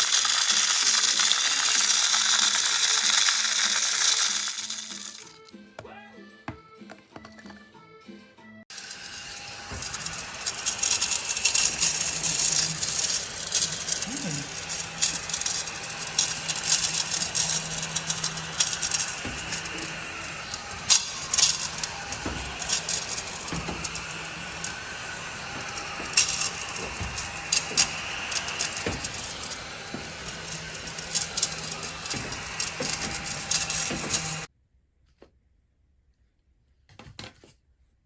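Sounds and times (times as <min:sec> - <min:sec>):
particles clicking and rattling: 0:00.0 - 0:05.5, 0:08.7 - 0:34.5
vacuum motor hum: 0:00.0 - 0:05.5, 0:08.7 - 0:34.5.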